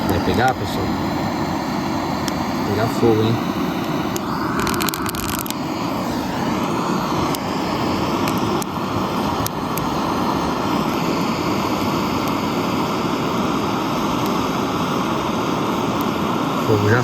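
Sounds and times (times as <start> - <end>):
gas blowtorch roaring: 0.0 - 17.0.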